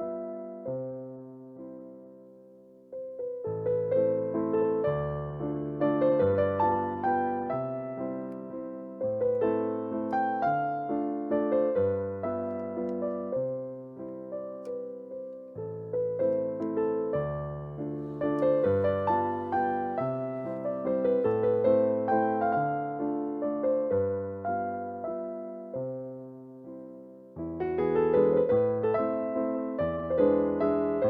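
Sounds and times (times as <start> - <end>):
gentle piano music: 0.0 - 31.0.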